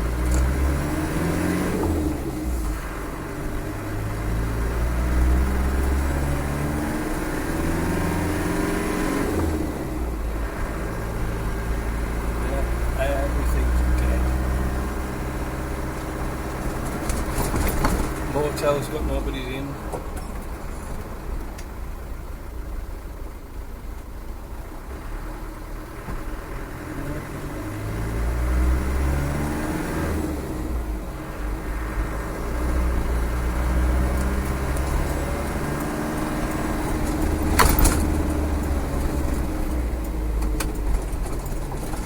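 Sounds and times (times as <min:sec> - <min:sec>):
diesel engine driving: 0:00.0 - 0:42.0.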